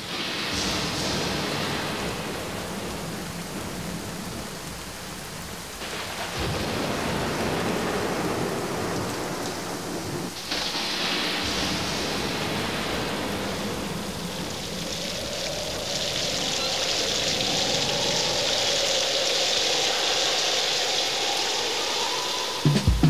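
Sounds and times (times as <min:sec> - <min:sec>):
heavy rain pouring: 0:00.0 - 0:23.0
thunder rumbling: 0:00.0 - 0:23.0.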